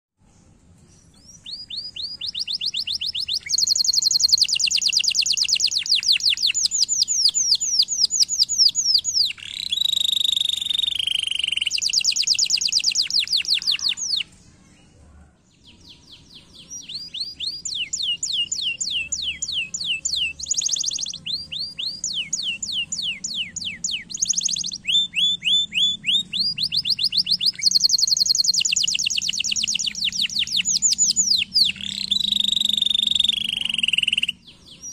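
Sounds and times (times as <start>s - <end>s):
canary singing trills: 1.0s - 34.9s.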